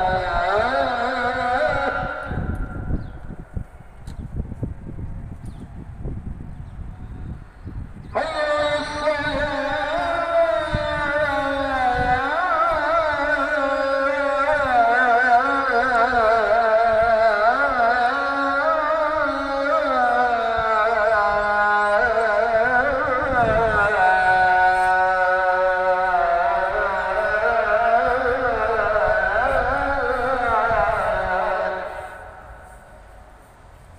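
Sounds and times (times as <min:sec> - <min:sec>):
person chanting melodically: 0:00.0 - 0:03.1, 0:08.0 - 0:33.5.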